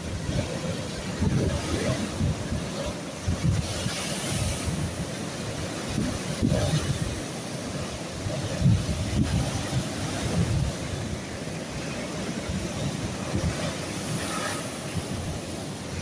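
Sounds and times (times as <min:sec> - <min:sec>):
sea waves washing in: 0:00.0 - 0:16.0
wind buffeting the microphone: 0:00.0 - 0:16.0.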